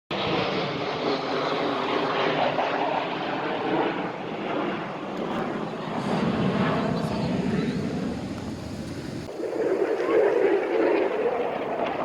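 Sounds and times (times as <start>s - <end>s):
plane flying over: 0.1s - 12.0s.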